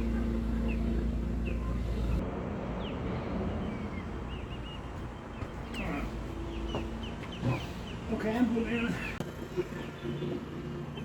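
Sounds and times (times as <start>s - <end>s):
birds chirping: 0.0s - 11.0s
low engine hum: 0.0s - 11.0s.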